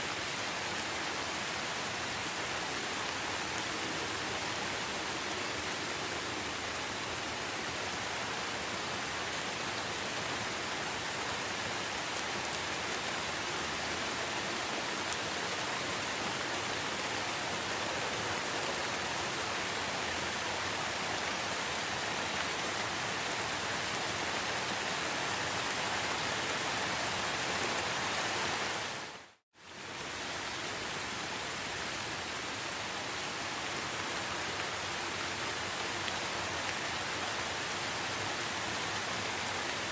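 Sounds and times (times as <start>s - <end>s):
dense rainfall hiss: 0.0s - 39.9s.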